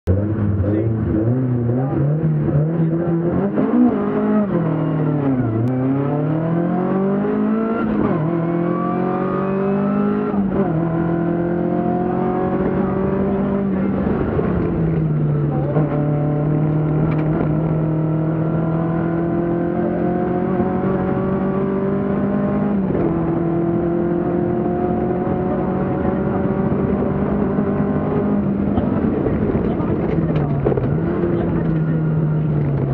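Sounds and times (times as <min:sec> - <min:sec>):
car engine accelerating hard: 0:00.0 - 0:32.9.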